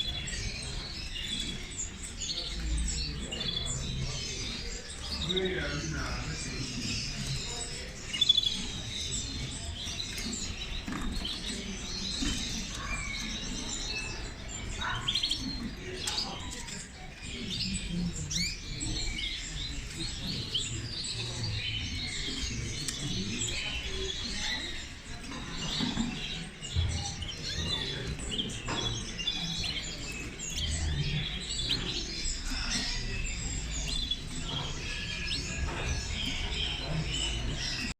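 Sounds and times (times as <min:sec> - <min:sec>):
songbirds chirping and trilling: 0:00.0 - 0:37.9.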